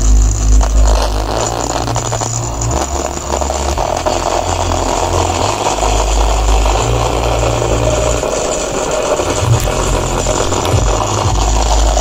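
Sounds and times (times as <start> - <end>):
buzzing rasp: 0.0 - 12.0
distorted music through speaker: 0.0 - 12.0.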